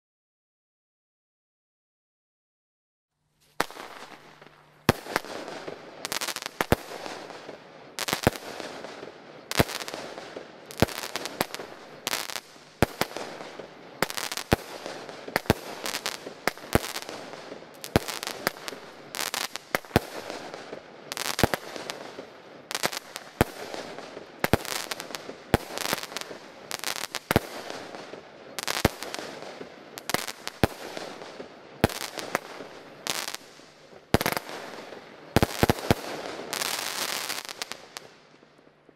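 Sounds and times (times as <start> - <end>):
fireworks crackling: 3.4 - 38.9
fireworks bangs: 3.6 - 38.9.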